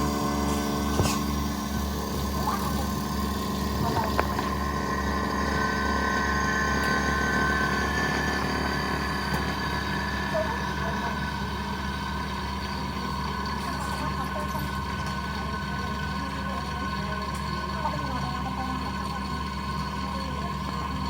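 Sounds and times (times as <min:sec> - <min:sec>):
machine hum with whining tones: 0:00.0 - 0:21.0.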